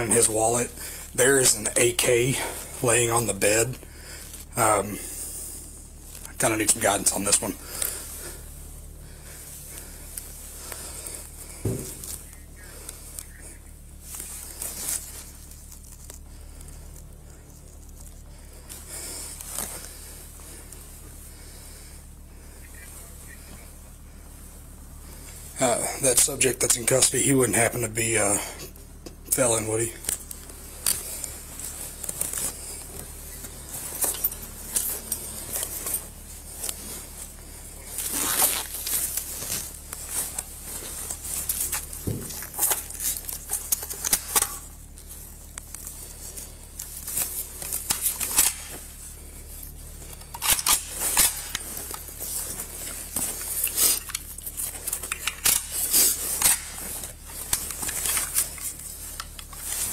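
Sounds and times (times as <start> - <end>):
clothing and gear rustling: 0.0 - 59.9
steady low hum: 0.0 - 59.9.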